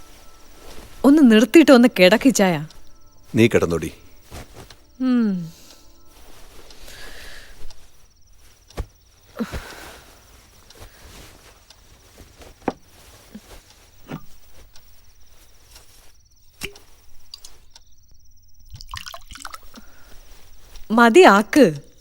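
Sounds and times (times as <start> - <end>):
cricket trill: 0.0 - 22.0.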